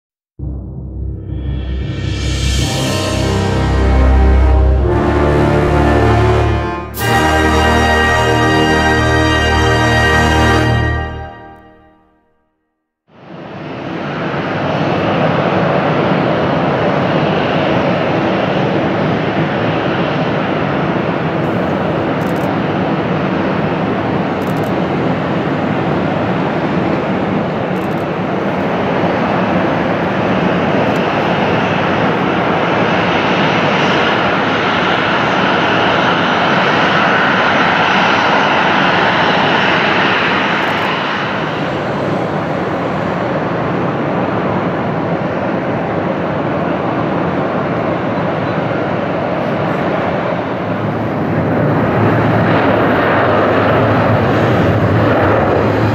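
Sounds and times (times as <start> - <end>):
jet engines running: 0.4 - 11.8, 13.2 - 55.9.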